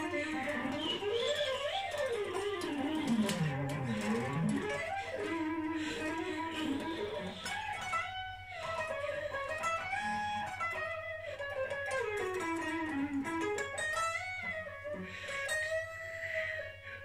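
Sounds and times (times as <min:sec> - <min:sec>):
electric guitar solo: 0:00.0 - 0:17.0.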